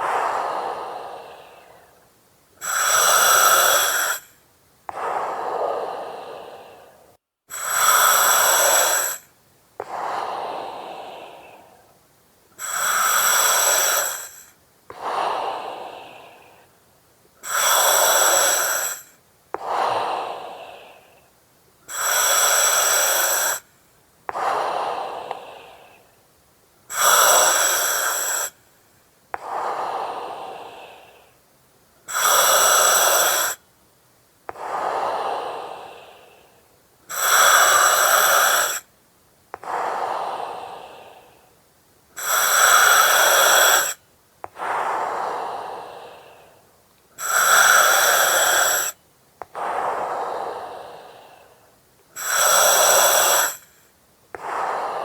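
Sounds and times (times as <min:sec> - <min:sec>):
breathing through oxygen mask: 0:00.0 - 0:11.9, 0:12.6 - 0:16.7, 0:17.4 - 0:21.3, 0:21.9 - 0:23.7, 0:24.3 - 0:26.1, 0:26.9 - 0:28.6, 0:29.4 - 0:31.4, 0:32.1 - 0:33.6, 0:34.5 - 0:38.9, 0:39.6 - 0:41.5, 0:42.2 - 0:55.0.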